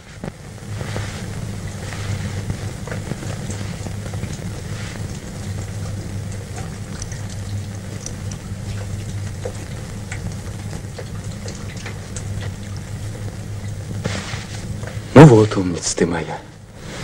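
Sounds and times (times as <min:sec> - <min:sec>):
film soundtrack hiss and crackles: 0:00.0 - 0:17.0
low hum: 0:00.0 - 0:17.0.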